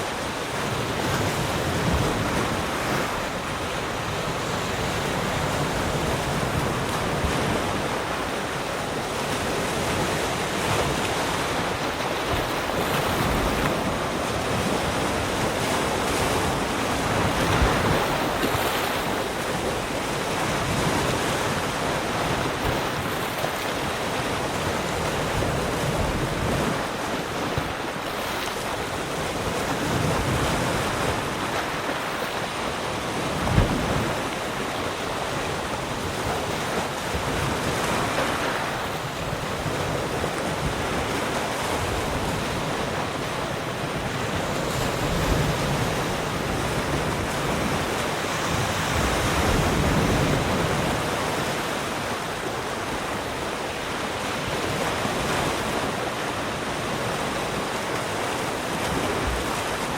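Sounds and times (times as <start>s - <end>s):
sea surf washing ashore: 0.0s - 59.9s.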